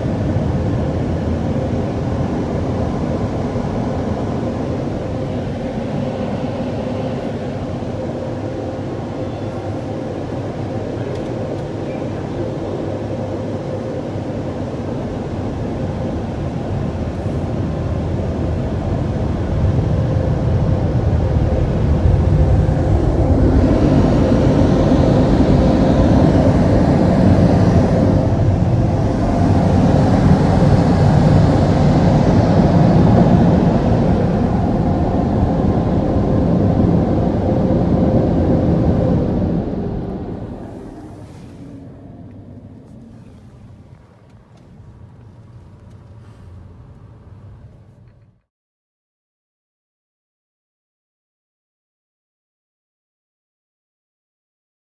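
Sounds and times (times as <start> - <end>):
car wash rushing roar: 0.0 - 48.3
faint steady hum: 0.0 - 48.4.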